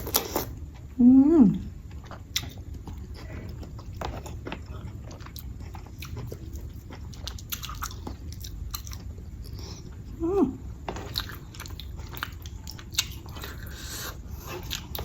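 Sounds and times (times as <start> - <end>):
person chewing food: 0.0 - 1.0, 1.6 - 15.0
low steady hum: 0.0 - 15.0.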